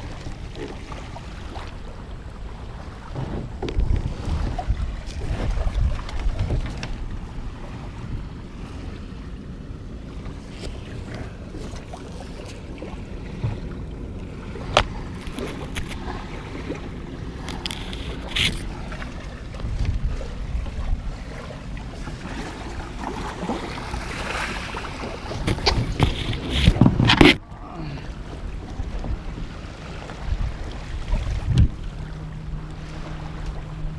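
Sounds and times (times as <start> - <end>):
water splashing: 0.0 - 8.0, 10.1 - 33.9
water: 0.0 - 33.9
wind rumbling on microphone: 0.0 - 33.9.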